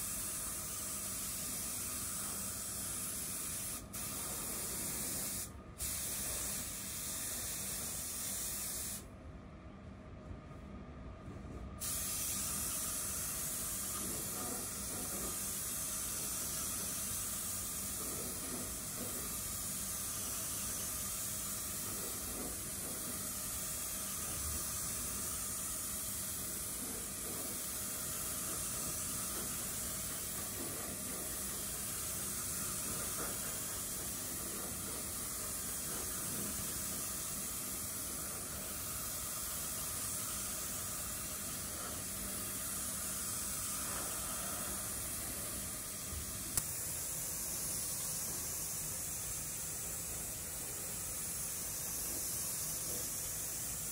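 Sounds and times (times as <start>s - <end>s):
spray gun hissing compressed air: 0.0s - 9.1s, 11.8s - 53.9s.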